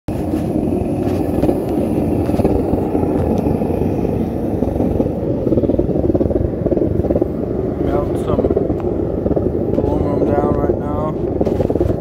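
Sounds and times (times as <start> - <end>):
propane burner roaring: 0.1 - 12.0.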